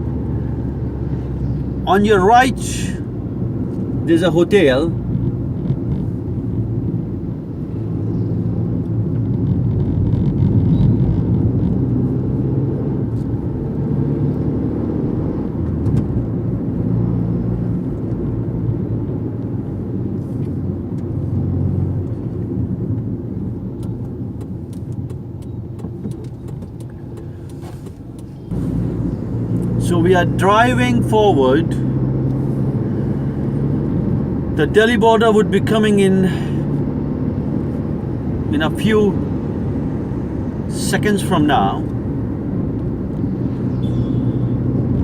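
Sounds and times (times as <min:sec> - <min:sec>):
car engine and tyre drone: 0:00.0 - 0:45.0.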